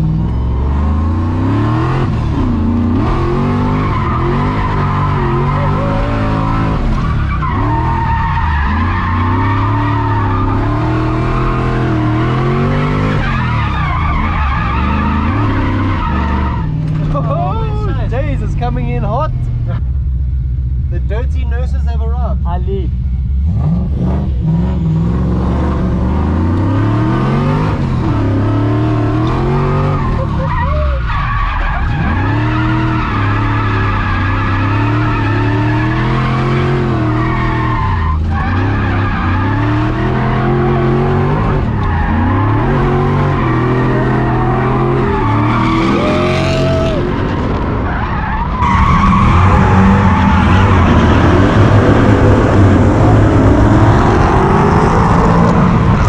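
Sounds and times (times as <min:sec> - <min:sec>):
car engine revving: 0:00.0 - 0:56.0
tyres skidding: 0:00.0 - 0:56.0.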